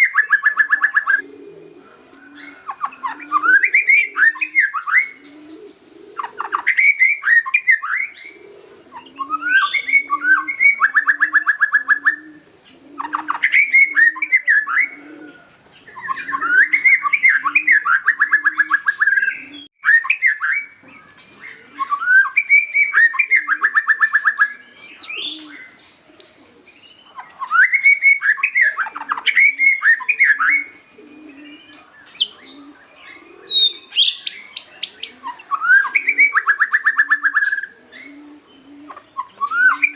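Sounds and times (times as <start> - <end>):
bird singing whistles and trills: 0.0 - 39.9
dove cooing: 0.0 - 39.9.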